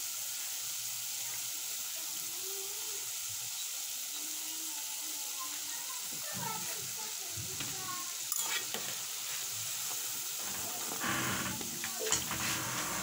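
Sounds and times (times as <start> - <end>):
dough deep-frying in oil: 0.0 - 13.0.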